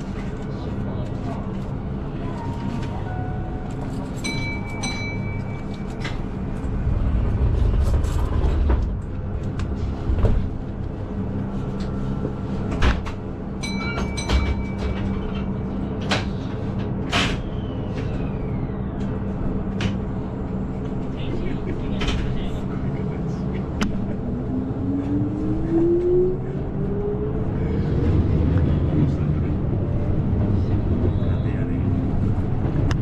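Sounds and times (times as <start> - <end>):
electric train hum: 0.0 - 33.0.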